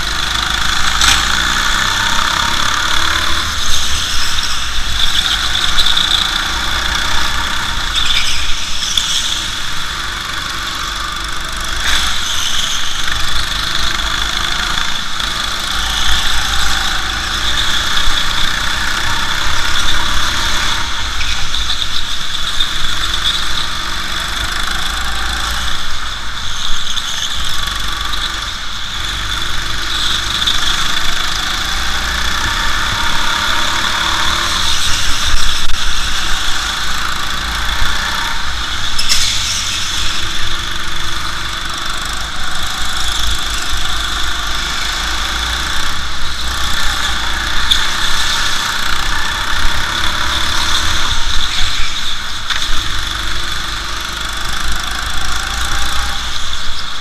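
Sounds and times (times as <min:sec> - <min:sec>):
go-kart engine running: 0:00.0 - 0:57.0
high-pitched whine: 0:00.0 - 0:57.0.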